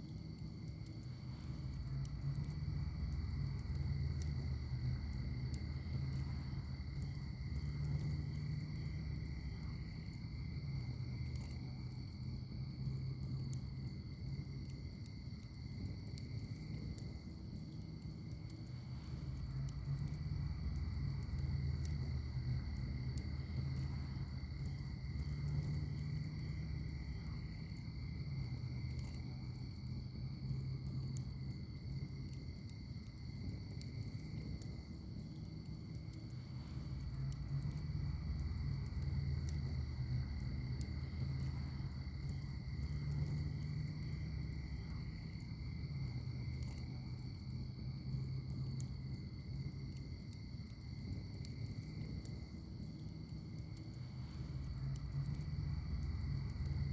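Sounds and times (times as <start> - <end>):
insects trilling: 0.0 - 56.9
wood fire crackling: 0.0 - 56.9.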